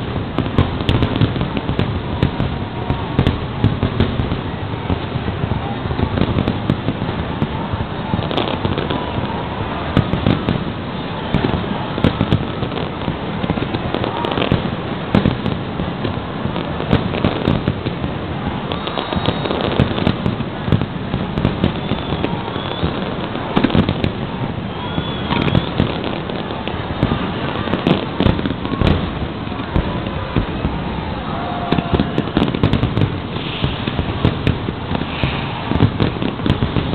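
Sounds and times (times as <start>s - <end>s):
fireworks bangs and crackles: 0.0s - 36.9s.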